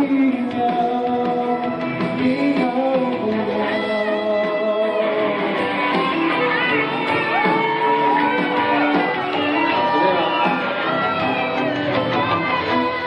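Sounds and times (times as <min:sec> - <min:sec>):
live pop ballad with guitar: 0:00.0 - 0:13.0.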